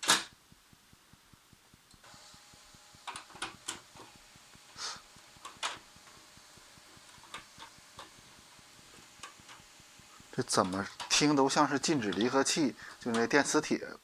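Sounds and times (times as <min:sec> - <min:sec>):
laser printer clacking: 0:01.8 - 0:13.7.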